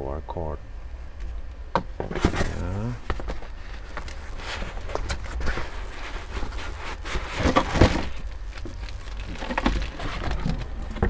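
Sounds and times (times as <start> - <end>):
low steady hum: 0.0 - 11.0
packaging rustling and crackling: 2.1 - 11.0.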